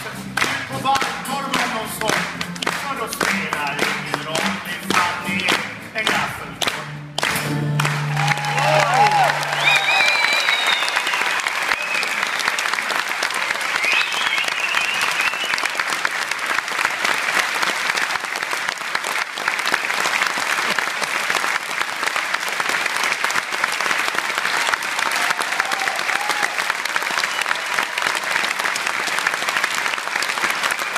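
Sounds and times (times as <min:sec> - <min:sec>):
audience applauding: 0:00.0 - 0:30.9.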